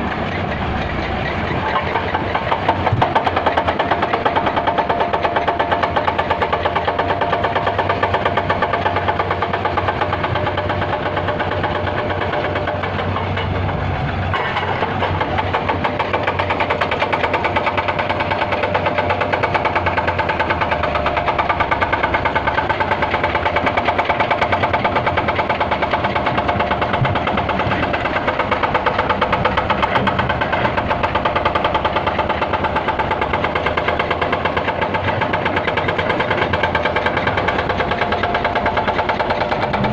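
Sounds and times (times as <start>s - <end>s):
large diesel engine running: 0.0s - 39.9s.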